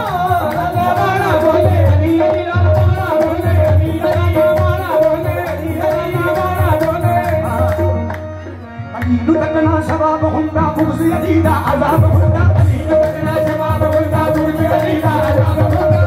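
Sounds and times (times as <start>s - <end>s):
hand drums playing: 0.0s - 8.3s, 9.0s - 16.0s
harmonium notes: 0.0s - 16.0s.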